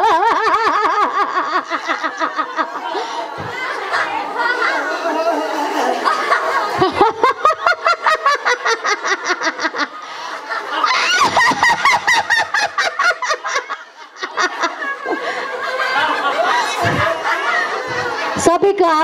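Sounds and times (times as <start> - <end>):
women laughing rhythmically: 0.0 - 18.5.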